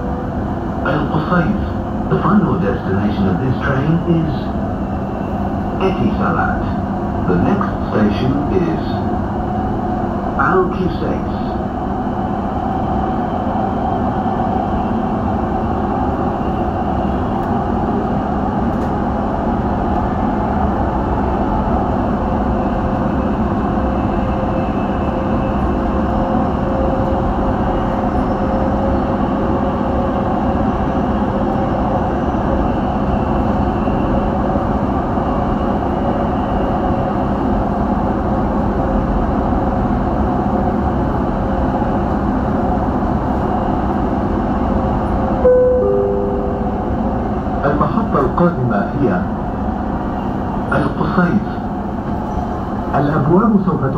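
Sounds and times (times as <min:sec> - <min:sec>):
faint train whine: 0:00.0 - 0:53.9.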